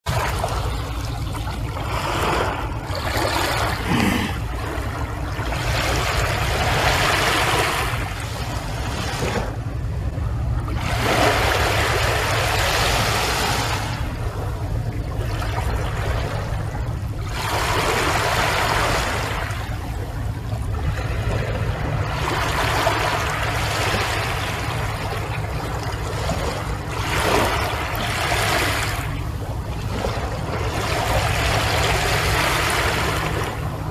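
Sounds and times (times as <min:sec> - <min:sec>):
small waves washing onto shore: 0:00.1 - 0:33.9
steady low rumble: 0:00.1 - 0:33.9.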